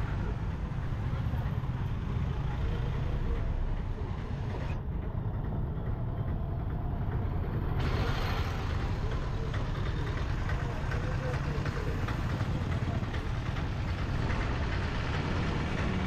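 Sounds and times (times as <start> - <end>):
street traffic rumble: 0.0 - 16.0
tuk-tuk and motorbike engines: 0.0 - 16.0.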